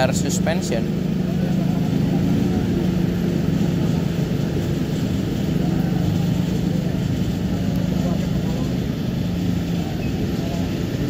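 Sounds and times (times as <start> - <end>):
diesel bus engine droning: 0.0 - 11.0
motor scooters passing: 0.0 - 11.0.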